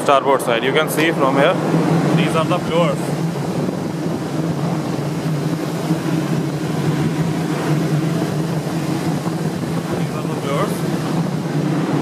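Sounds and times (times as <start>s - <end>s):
ventilation blowers humming: 0.0s - 12.0s
air rushing: 0.8s - 12.0s.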